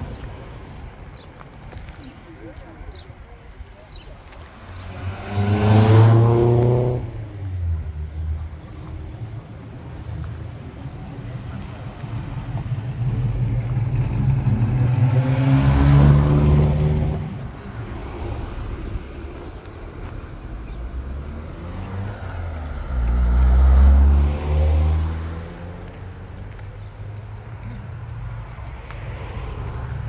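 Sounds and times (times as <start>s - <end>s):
cars driving past: 4.2s - 30.0s.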